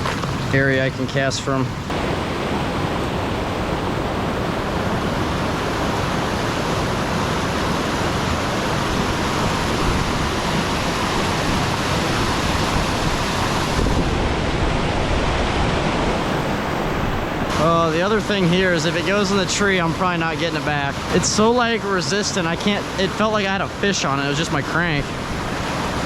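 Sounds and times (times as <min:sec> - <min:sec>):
floodwater roaring through spillway: 0:00.0 - 0:26.0.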